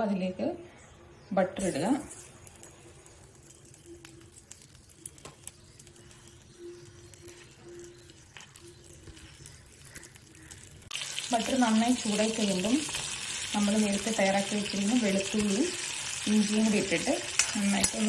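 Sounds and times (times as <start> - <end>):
butter sizzling in a pan: 1.8 - 18.0.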